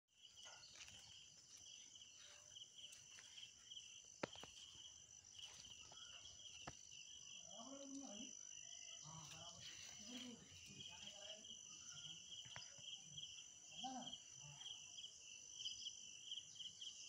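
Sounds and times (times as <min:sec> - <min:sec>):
insects trilling: 0:00.2 - 0:17.0.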